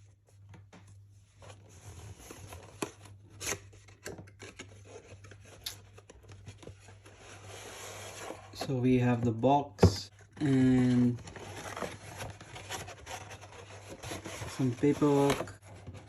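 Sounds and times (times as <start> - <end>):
cardboard and paper rustling: 0.3 - 16.0.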